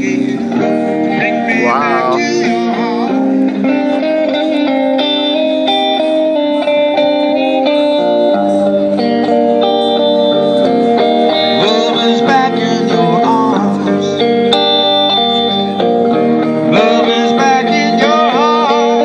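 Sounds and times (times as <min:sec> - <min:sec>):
electric guitar playing: 0:00.0 - 0:19.0.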